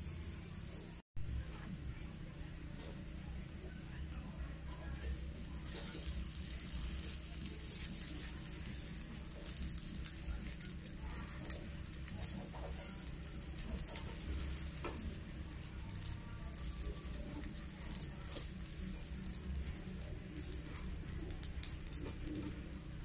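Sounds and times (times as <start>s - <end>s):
omelette sizzling in oil: 0.0s - 23.0s.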